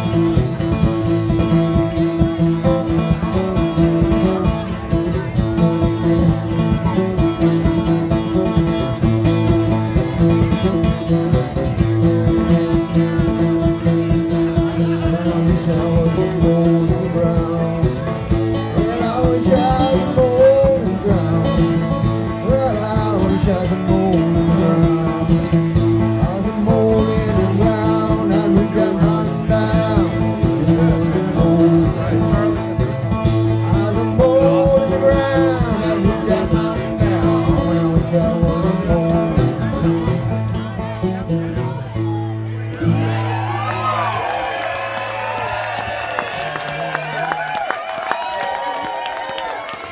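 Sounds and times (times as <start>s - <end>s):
banjo and acoustic guitar playing: 0.0s - 46.3s.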